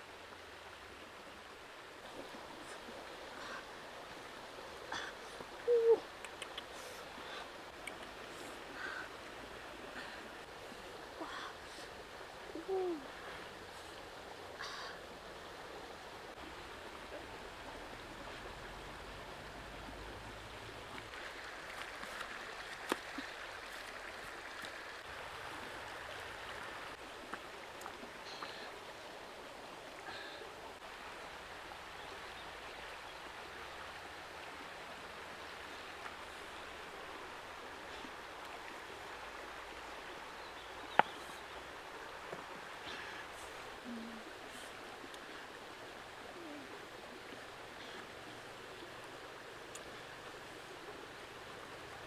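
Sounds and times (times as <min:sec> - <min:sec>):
stream flowing over rocks: 0:00.0 - 0:52.0.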